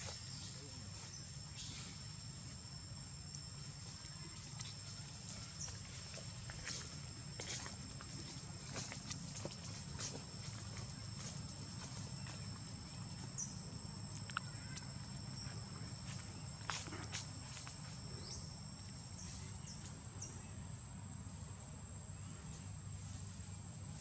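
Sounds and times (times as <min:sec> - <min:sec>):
high-pitched insect trilling: 0:00.0 - 0:19.8.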